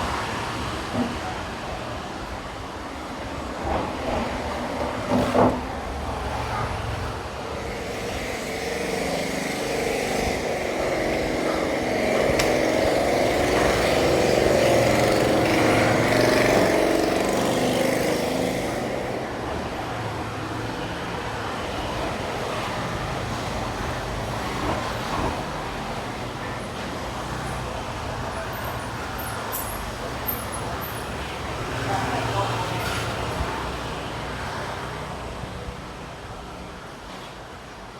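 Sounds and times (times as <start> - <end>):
road traffic: 0.0 - 37.9.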